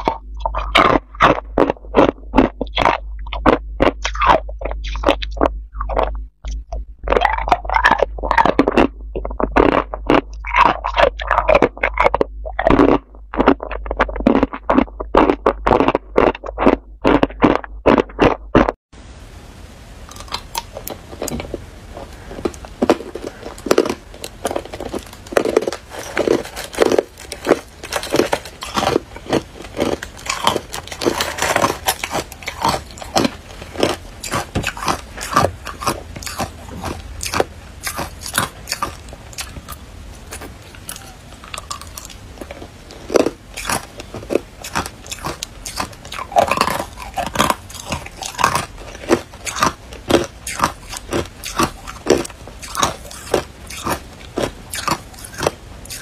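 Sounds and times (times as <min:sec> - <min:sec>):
ice being chewed: 0:00.0 - 0:18.8, 0:20.1 - 0:56.0.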